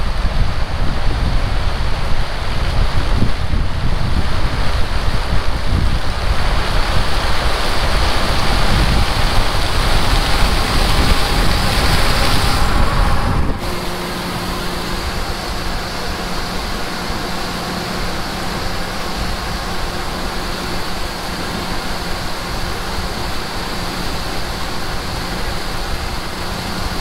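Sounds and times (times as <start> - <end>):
combine harvester running: 0.0 - 27.0
low machine hum: 0.0 - 27.0
wind buffeting microphone: 0.0 - 27.0.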